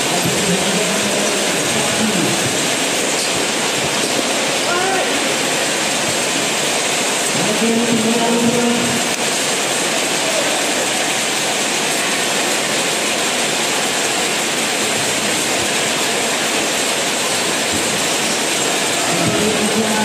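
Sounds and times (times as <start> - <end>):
crowd noise in a hall: 0.0 - 20.0.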